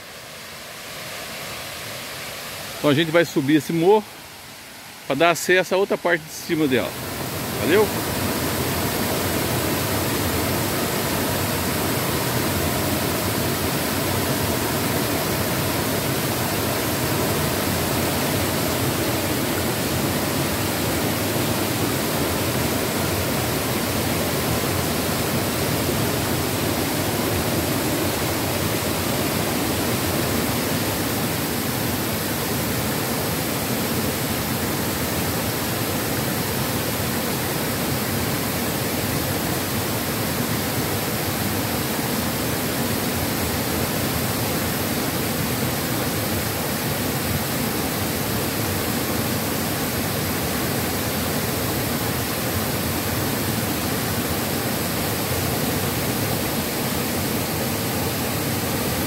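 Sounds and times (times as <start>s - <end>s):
water rushing over rocks: 0.7s - 59.0s.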